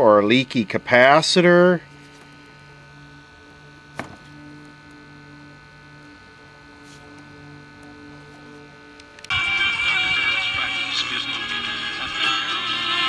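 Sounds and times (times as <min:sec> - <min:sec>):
mains hum from radio: 0:00.0 - 0:13.0.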